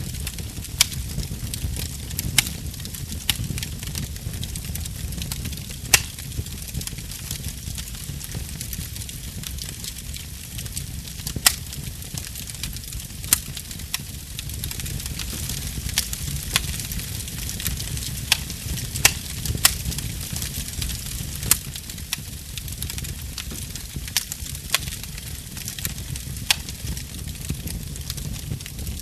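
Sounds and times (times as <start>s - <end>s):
sharp pops from fire: 0.0s - 29.0s
wood fire crackling: 0.0s - 29.0s.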